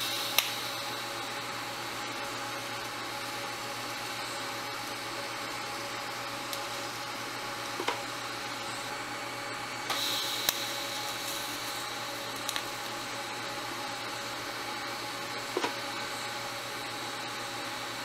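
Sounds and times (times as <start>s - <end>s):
welder humming and hissing: 0.0s - 18.0s.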